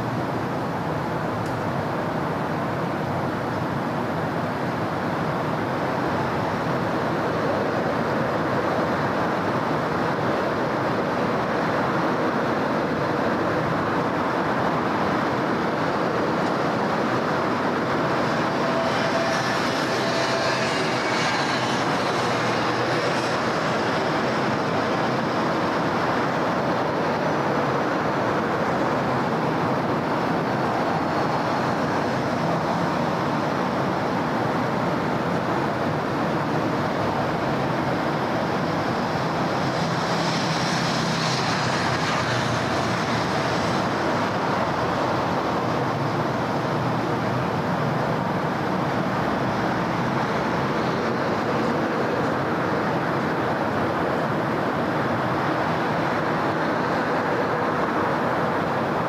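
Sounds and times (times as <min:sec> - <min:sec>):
city traffic noise: 0:00.0 - 0:59.0
passing vehicle hiss with whine: 0:00.0 - 0:59.0.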